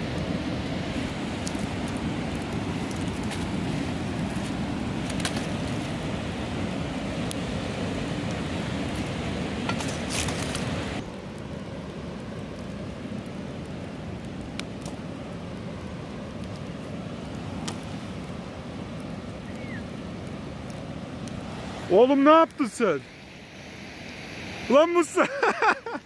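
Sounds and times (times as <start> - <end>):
steady rushing noise: 0.0 - 25.3
campfire crackling and popping: 0.0 - 26.0.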